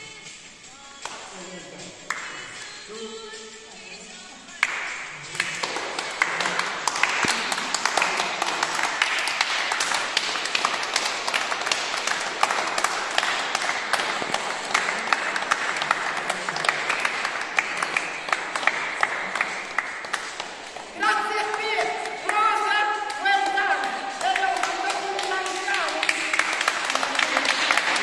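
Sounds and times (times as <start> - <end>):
people clapping: 0.0 - 2.8, 3.9 - 28.0.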